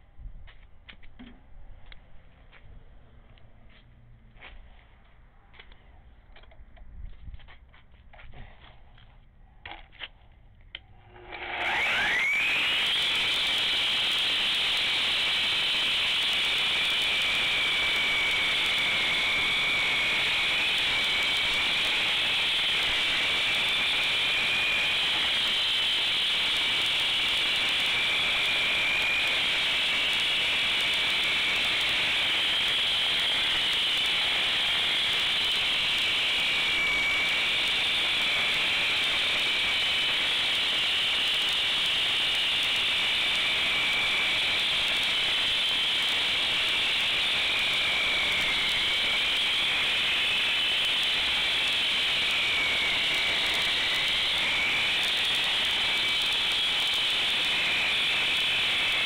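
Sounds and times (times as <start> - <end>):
concrete saw cutting: 11.0 - 59.0.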